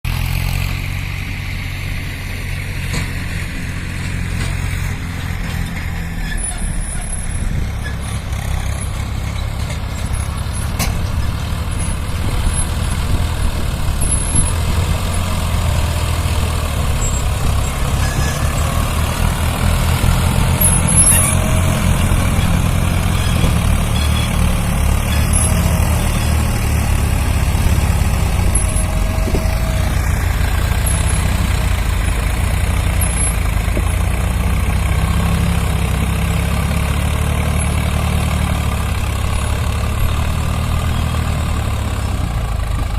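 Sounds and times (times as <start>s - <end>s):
diesel tractor engines running: 0.0s - 42.9s.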